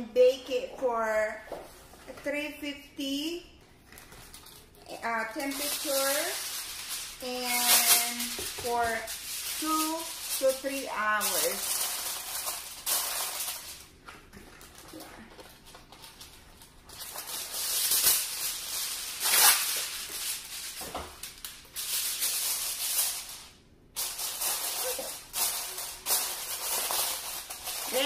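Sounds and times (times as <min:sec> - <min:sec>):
aluminium foil crinkling: 0:03.8 - 0:28.0.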